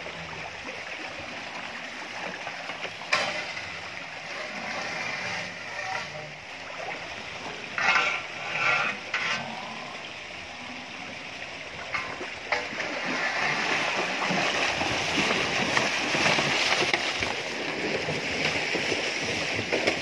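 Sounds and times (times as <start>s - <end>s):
water splashing around cows' legs: 0.0s - 20.0s.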